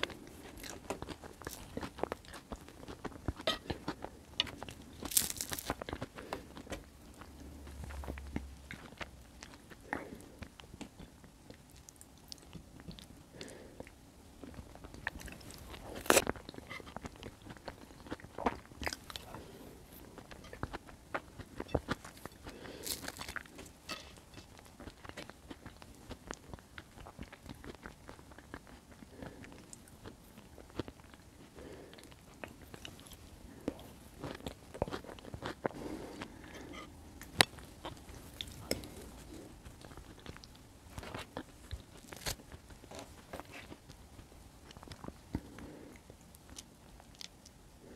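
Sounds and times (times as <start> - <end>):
close chewing of soft food: 0.0 - 47.9.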